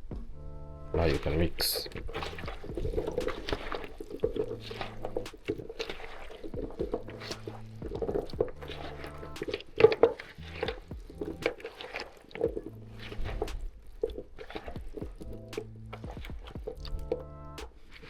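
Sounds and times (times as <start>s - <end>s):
wet marinade squelching: 1.0s - 18.0s.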